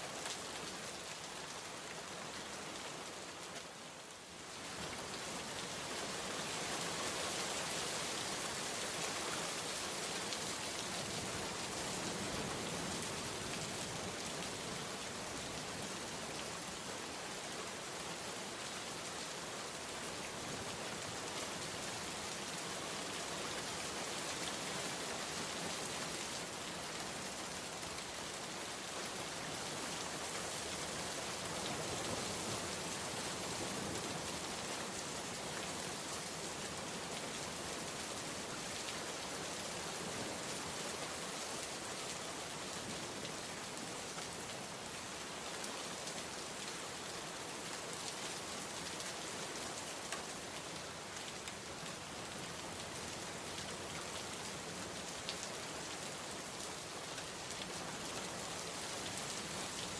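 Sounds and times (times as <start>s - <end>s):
rain pattering: 0.1s - 18.6s, 19.6s - 59.9s.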